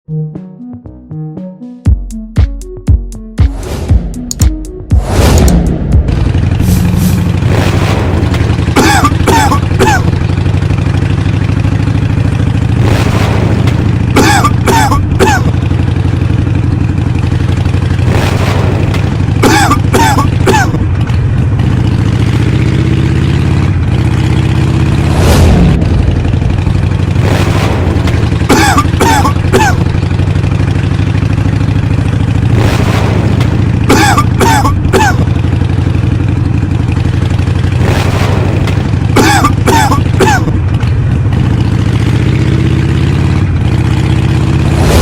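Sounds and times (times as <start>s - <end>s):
motorcycle engine running: 1.9s - 45.0s.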